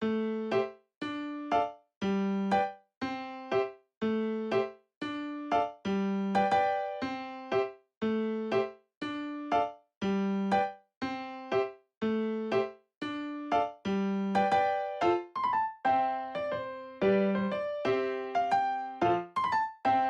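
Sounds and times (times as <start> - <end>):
electric piano melody: 0.0 - 20.0.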